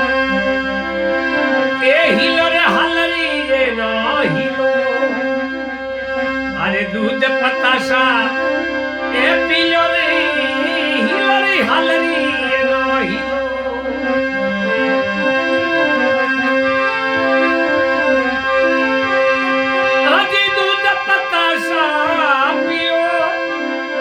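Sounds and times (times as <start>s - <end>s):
ornamented folk melody: 0.0s - 24.0s
sustained reed organ chord: 0.0s - 24.0s.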